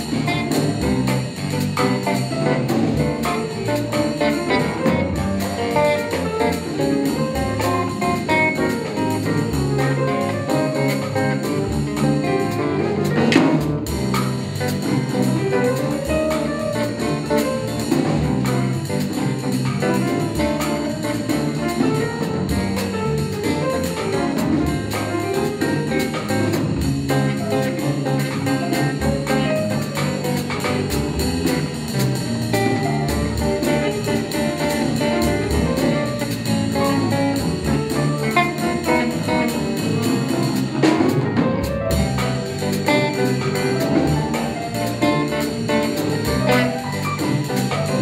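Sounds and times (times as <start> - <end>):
drum kit: 0.0 - 48.0.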